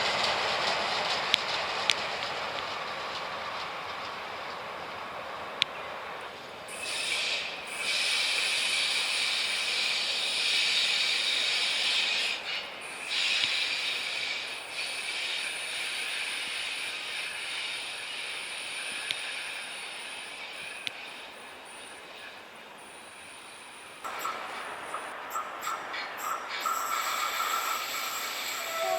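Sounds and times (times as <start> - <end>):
train wheels squealing on rails: 0.0 - 28.9.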